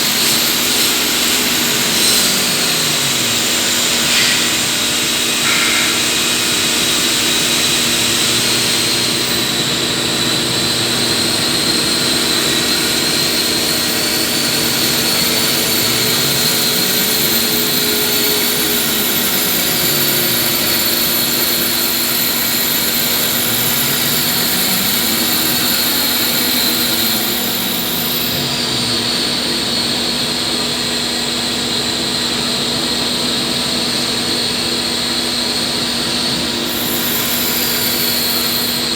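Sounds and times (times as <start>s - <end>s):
lathe machine hum with whine: 0.0s - 38.9s.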